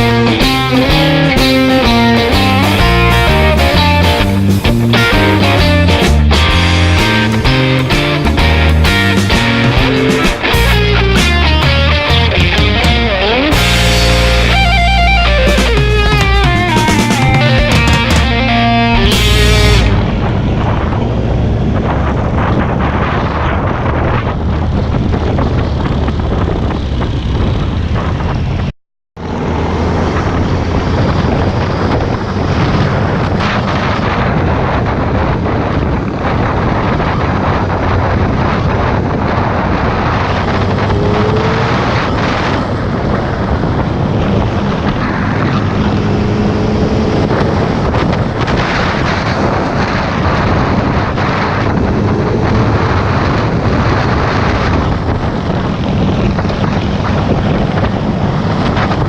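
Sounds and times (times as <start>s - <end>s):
motorcycle engine drone: 0.0s - 59.0s
wind rush on microphone: 0.0s - 59.0s.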